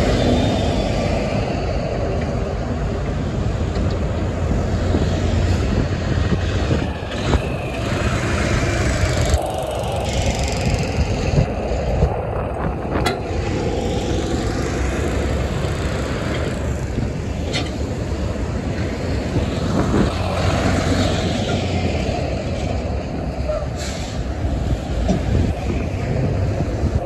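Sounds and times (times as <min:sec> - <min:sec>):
trucks passing: 0:00.0 - 0:27.0.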